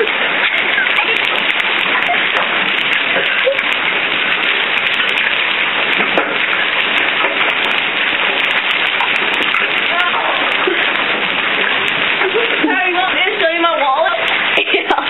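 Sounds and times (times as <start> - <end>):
hail and rain pelting: 0.0 - 15.0.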